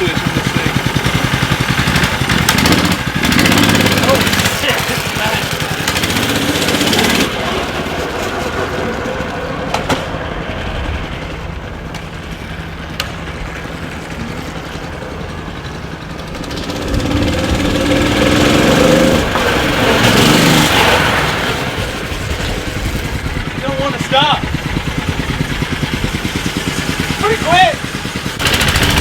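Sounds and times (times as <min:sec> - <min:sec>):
small bike engine running: 0:00.0 - 0:29.0.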